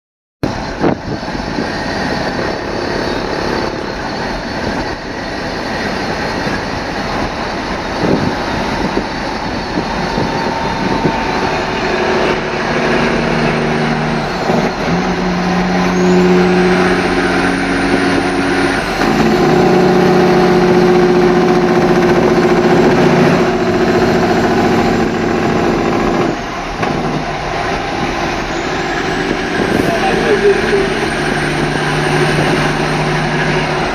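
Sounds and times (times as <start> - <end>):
diesel engine with engine brake: 0.5 - 33.9.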